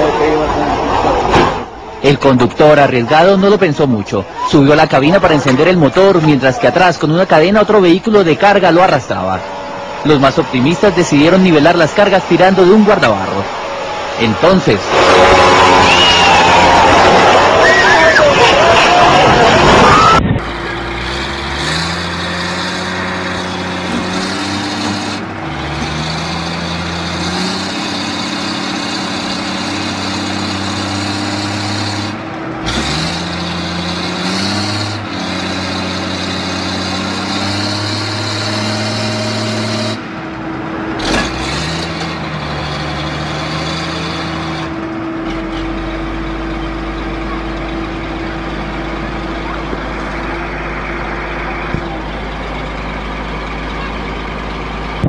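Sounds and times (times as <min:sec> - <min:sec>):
heavy diesel engines under load: 0:00.0 - 0:55.0.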